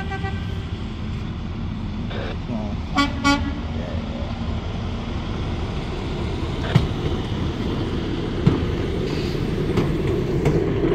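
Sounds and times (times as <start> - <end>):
truck rumbling along rails: 0.0 - 10.9.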